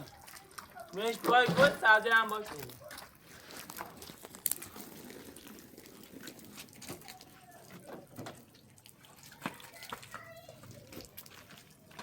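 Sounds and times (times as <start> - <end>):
faint crinkling: 0.0 - 12.0.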